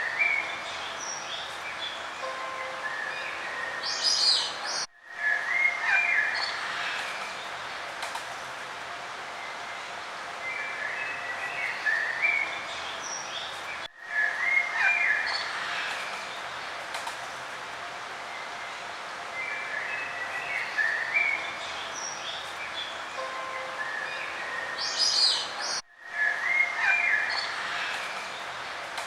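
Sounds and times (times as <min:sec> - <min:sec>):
songbirds singing and chirping: 0:00.0 - 0:08.0, 0:09.3 - 0:17.0, 0:18.2 - 0:29.0.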